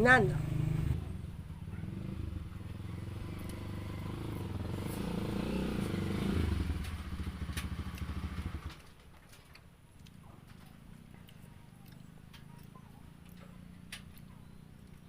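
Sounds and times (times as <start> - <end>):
motorcycle passing by: 0.0 - 8.9, 10.2 - 15.0.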